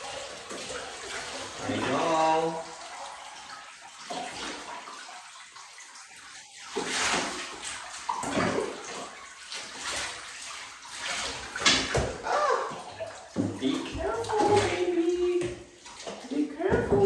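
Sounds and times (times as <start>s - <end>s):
water splashing into a bathtub: 0.0s - 17.0s.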